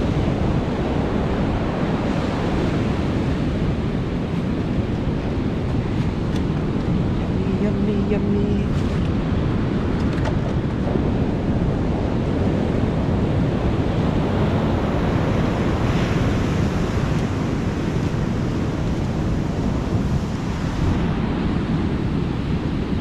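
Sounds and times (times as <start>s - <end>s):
ocean surf breaking: 0.0s - 23.0s
wind on microphone: 0.0s - 23.0s.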